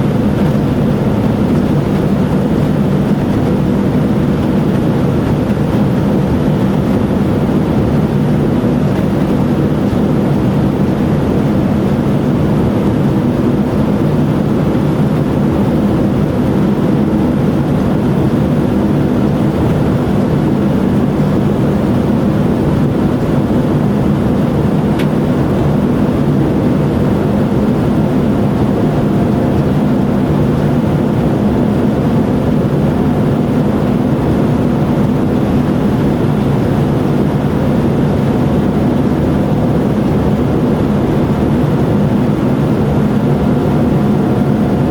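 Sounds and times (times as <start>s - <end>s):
aircraft cabin engine drone: 0.0s - 44.9s.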